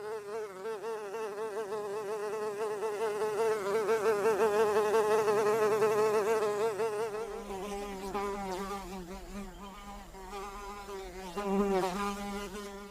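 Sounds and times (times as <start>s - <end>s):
fly buzzing: 0.0s - 12.9s.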